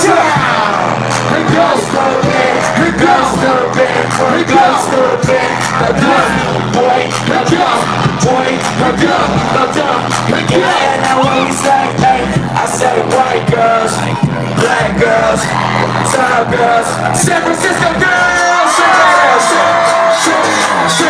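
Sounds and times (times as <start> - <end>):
crowd yelling: 0.0 - 21.0
hip-hop music over sound system: 0.0 - 21.0.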